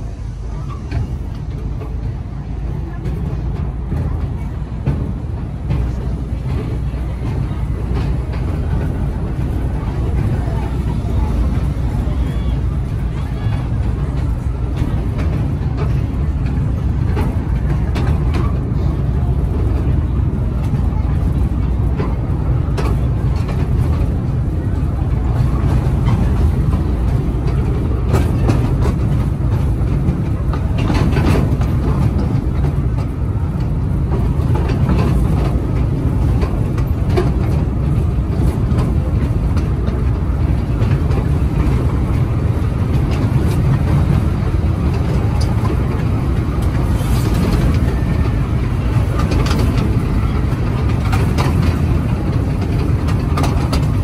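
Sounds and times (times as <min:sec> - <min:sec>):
miniature train rumbling: 0:00.0 - 0:54.0
wheel clicks on rails: 0:00.6 - 0:54.0.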